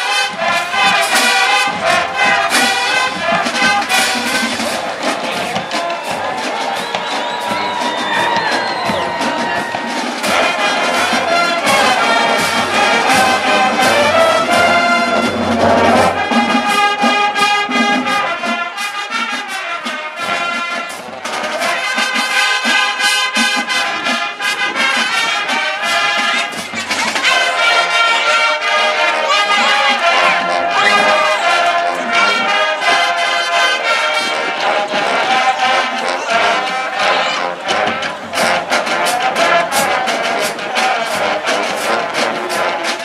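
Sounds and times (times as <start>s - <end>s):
brass chords: 0.0s - 43.0s
marching percussion hits: 0.0s - 43.0s.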